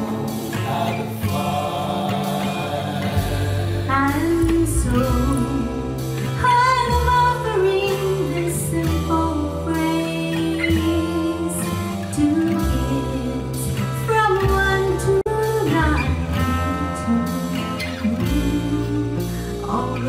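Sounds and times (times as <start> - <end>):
acoustic guitar: 0.0 - 20.0
woman singing: 0.0 - 20.0.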